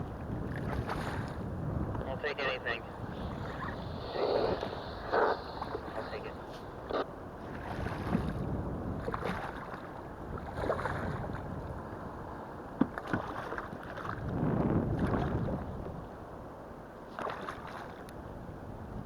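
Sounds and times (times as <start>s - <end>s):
wind buffeting microphone: 0.0s - 12.5s, 13.1s - 16.2s
water sloshing against hull: 0.0s - 19.0s.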